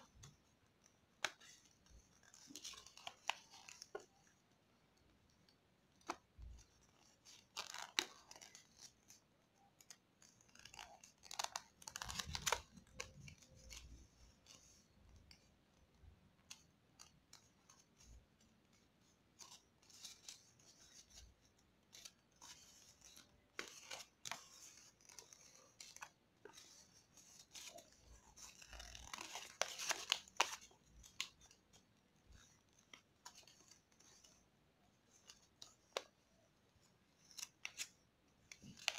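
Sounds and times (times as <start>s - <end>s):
paper crinkling while folded: 0.1s - 4.4s, 6.0s - 15.4s, 16.0s - 38.9s.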